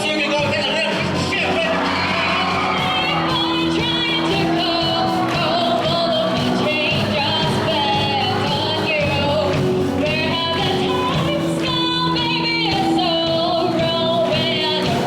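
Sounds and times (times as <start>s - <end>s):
live pop-rock band: 0.0s - 15.0s
woman singing lead vocal: 0.0s - 15.0s.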